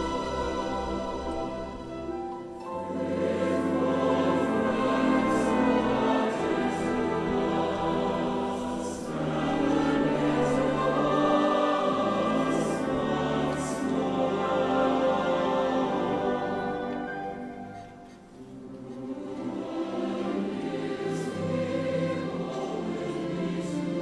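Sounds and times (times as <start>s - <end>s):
mixed choir singing: 0.0s - 24.0s.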